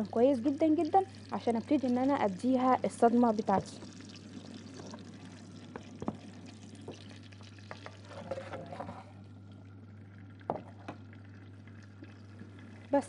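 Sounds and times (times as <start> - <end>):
fat sizzling in a frying pan: 0.0 - 13.0.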